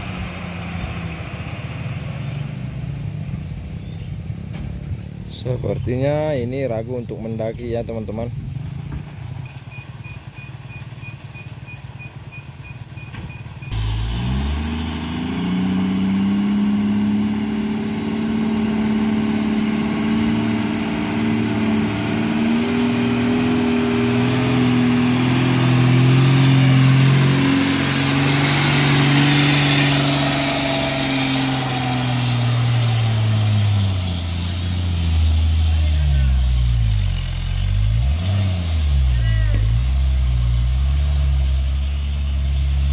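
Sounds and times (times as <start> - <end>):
diesel truck engine labouring: 7.7 - 42.9.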